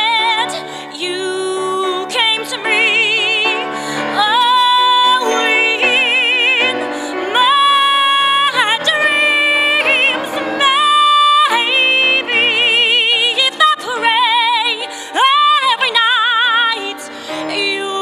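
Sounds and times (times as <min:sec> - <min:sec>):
grand piano: 0:00.0 - 0:18.0
woman singing: 0:00.0 - 0:18.0.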